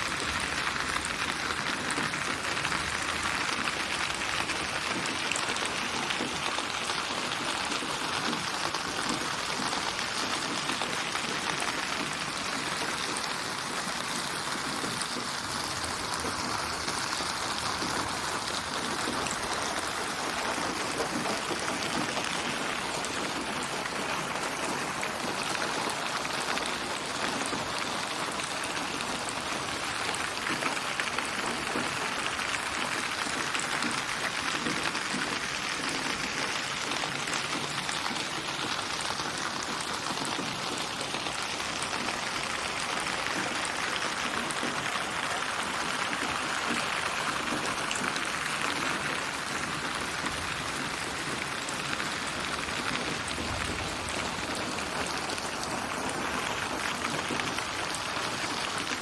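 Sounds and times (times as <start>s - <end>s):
steady rain patter: 0.0s - 59.0s.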